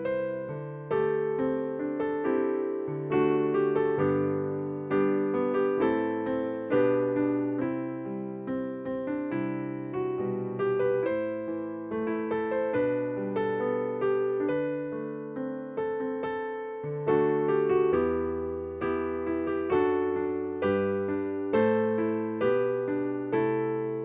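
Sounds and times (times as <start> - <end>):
electric piano playing a hymn: 0.0 - 24.0.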